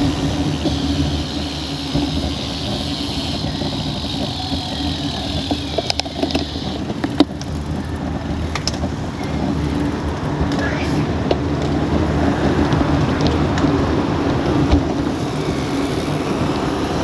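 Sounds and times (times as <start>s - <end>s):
road and wind rumble: 0.0s - 17.0s.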